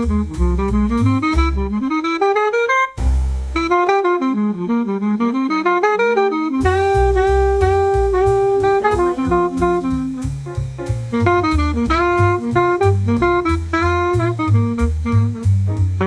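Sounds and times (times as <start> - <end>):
drums: 0.0 - 4.8, 6.4 - 16.0
jazz solo melody: 0.0 - 16.0
walking bass line: 0.0 - 16.0.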